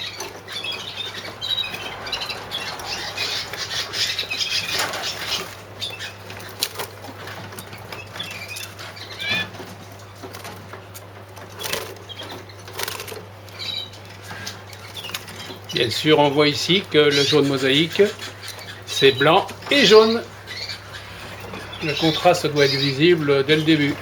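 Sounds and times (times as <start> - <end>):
birds fluttering in cages: 0.0 - 24.0.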